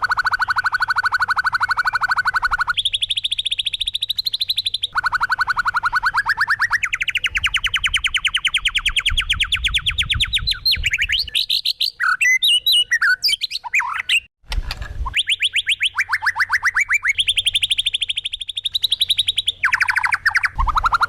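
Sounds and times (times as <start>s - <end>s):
bird trilling and warbling: 0.0s - 21.0s.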